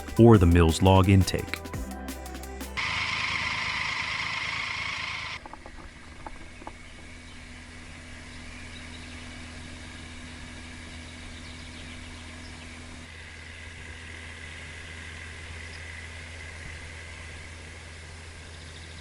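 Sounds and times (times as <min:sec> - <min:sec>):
engine droning: 0:02.4 - 0:19.0.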